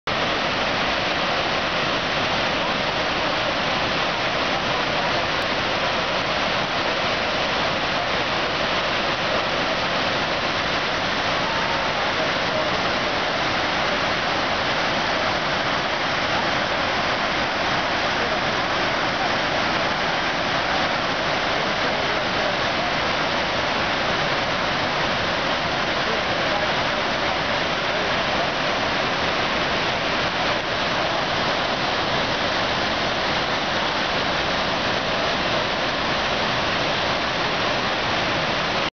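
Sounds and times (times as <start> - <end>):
water rushing over dam spillway: 0.1 - 38.9.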